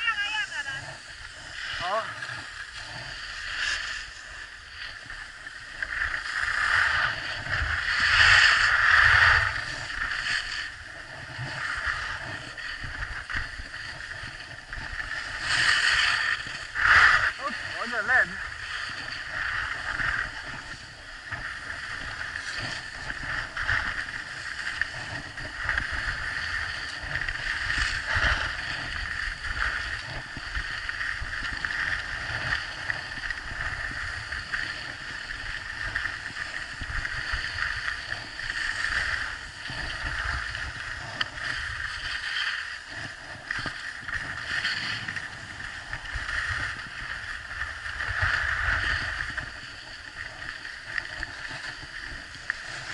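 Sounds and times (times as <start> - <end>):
skis scraping on packed snow: 0.0 - 52.9.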